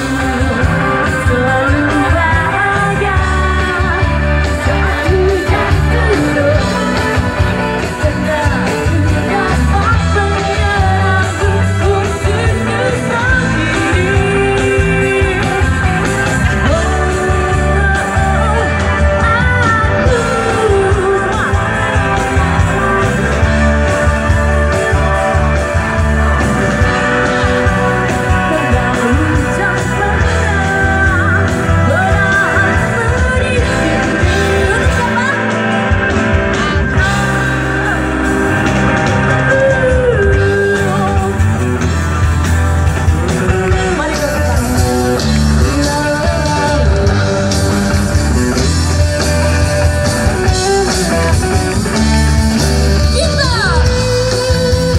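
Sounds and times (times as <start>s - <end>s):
guitar: 0.0s - 54.9s
heavy bass line: 0.0s - 54.9s
lead singer vocals: 0.0s - 54.9s
live pop-rock band: 0.0s - 54.9s.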